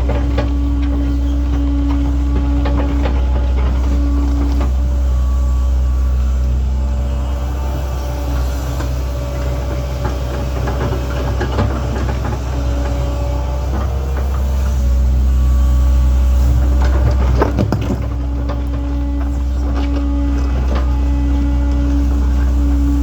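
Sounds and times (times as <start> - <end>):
excavator diesel engine running: 0.0 - 23.0
excavator scraping and knocking dirt: 0.0 - 23.0.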